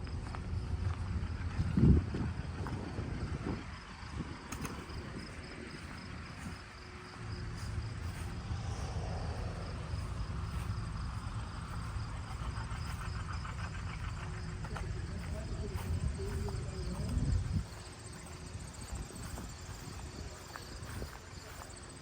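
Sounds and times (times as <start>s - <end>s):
crickets chirping: 0.0s - 22.0s
low engine rumble: 0.0s - 22.0s.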